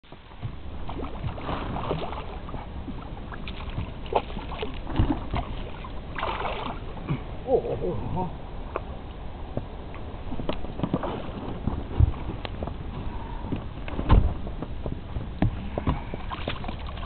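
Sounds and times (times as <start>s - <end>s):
water splashing against boat: 0.0s - 7.4s, 9.5s - 17.0s.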